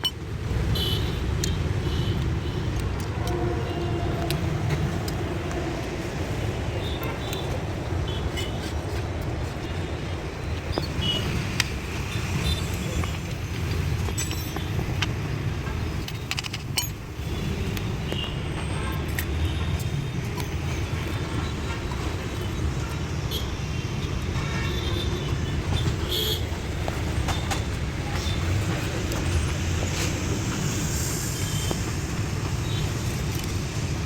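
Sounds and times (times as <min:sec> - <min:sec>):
traffic rumble: 0:00.0 - 0:34.0.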